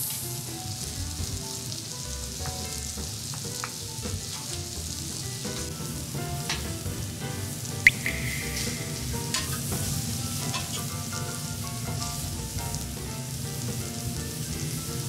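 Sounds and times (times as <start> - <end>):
pasta sizzling in a pan: 0.0 - 15.0.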